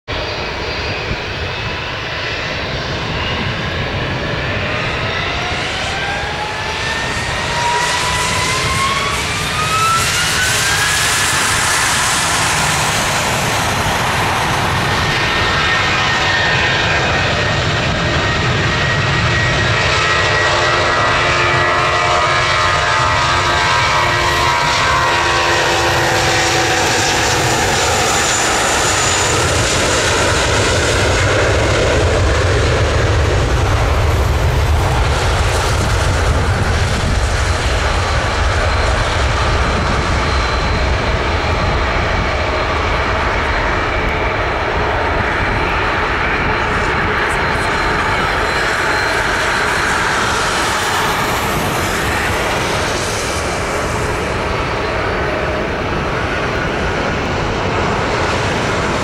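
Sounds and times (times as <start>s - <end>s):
jet roar: 0.0s - 59.0s
jet engines spooling up: 0.1s - 59.0s.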